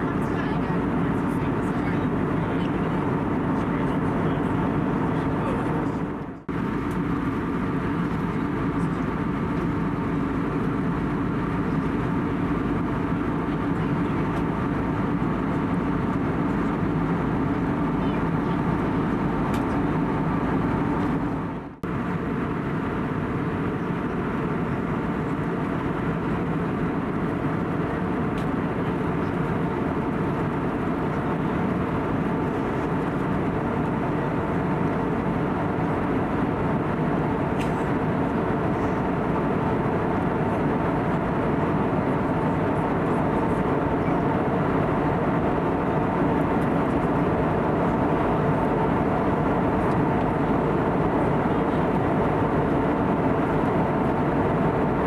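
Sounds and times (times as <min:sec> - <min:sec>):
airplane cabin airflow rush: 0:00.0 - 0:55.0
jet engines humming: 0:00.0 - 0:55.0.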